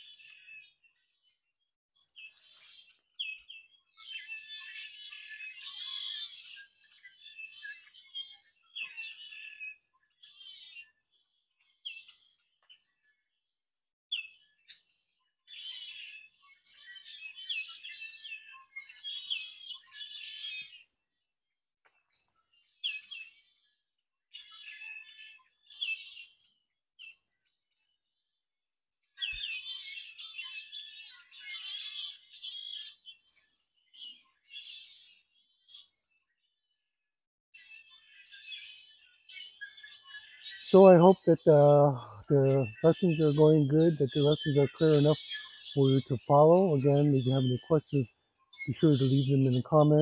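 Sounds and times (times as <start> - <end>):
songbirds chirping: 0.0 - 28.4, 29.0 - 50.0.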